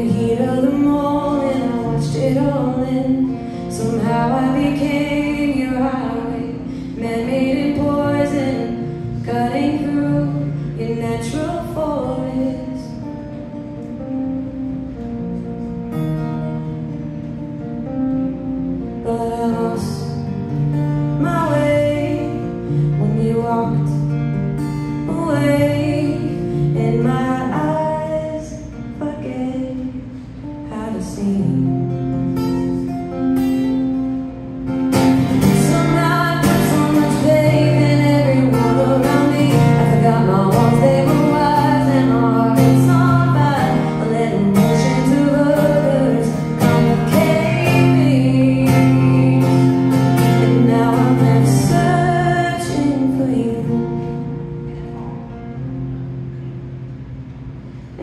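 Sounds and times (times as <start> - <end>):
woman singing: 0.0 - 14.0, 18.8 - 32.2, 35.3 - 54.4
acoustic guitar strumming: 0.0 - 58.0.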